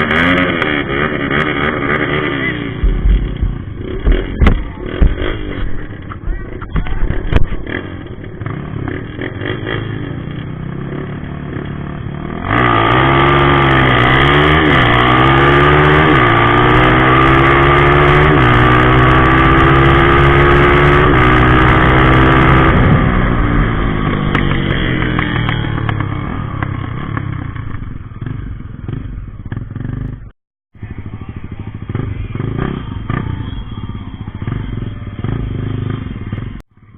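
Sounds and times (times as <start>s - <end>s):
motorcycle accelerating hard: 0.0s - 36.9s.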